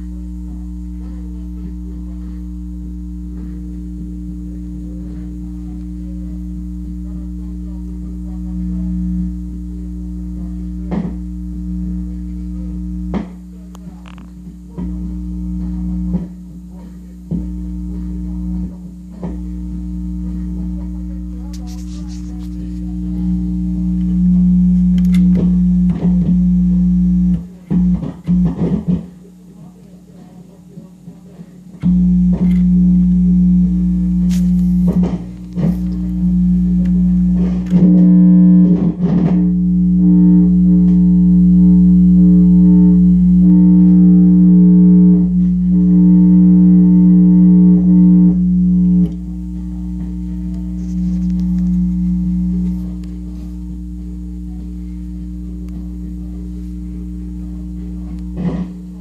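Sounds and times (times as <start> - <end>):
faint music from record: 0.0 - 59.0
loud mains hum: 0.0 - 59.0.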